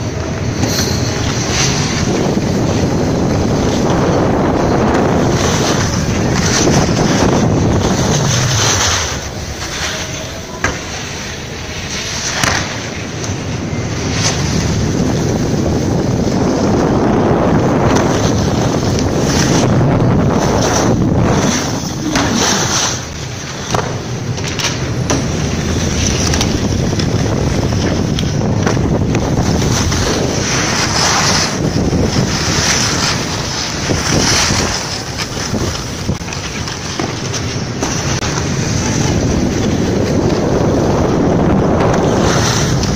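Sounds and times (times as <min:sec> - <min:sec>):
edges scraping on snow: 0:00.0 - 0:42.9
wind buffeting microphone: 0:00.0 - 0:42.9.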